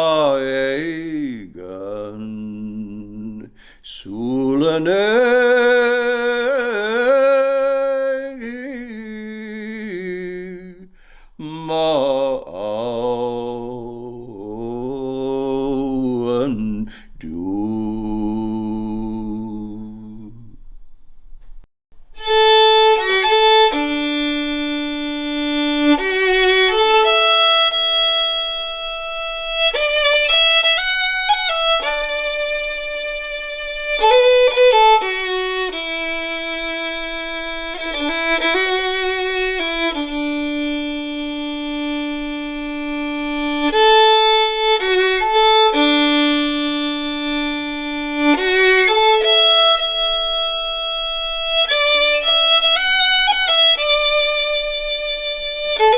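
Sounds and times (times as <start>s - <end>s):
solo fiddle slow melody: 4.8s - 20.2s, 22.1s - 55.9s.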